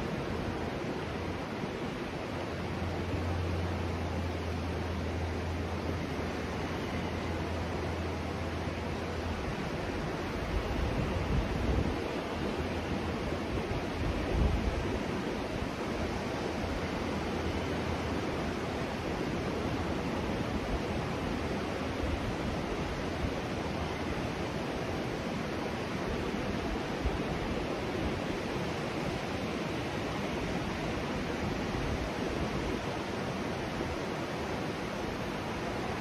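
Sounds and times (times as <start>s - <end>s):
ocean surf rushing: 0.0s - 36.0s.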